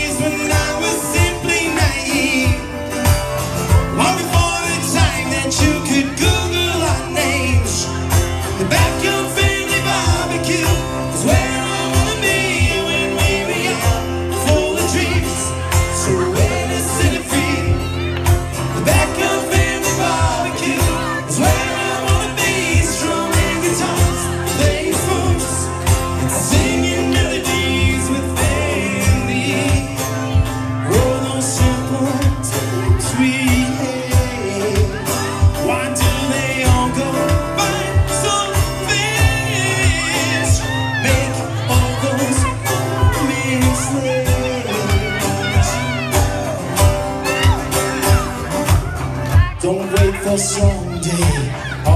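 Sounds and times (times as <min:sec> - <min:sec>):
man singing into microphone: 0:00.0 - 0:48.6, 0:49.3 - 0:51.9
steady beat: 0:00.0 - 0:51.9
strummed acoustic guitars: 0:00.0 - 0:51.9.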